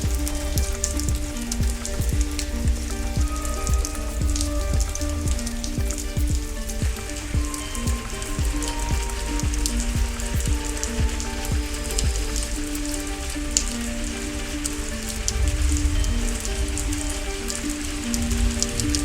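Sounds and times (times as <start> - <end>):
rain falling close: 0.0 - 19.0
soft background music: 0.0 - 19.0.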